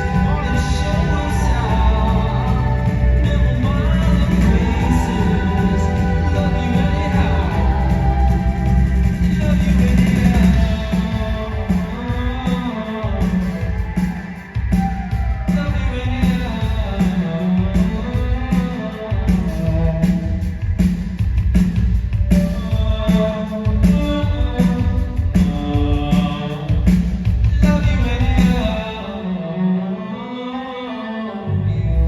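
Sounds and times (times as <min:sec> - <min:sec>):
person singing: 0:00.0 - 0:20.4, 0:22.2 - 0:32.0
live band music: 0:00.0 - 0:30.1.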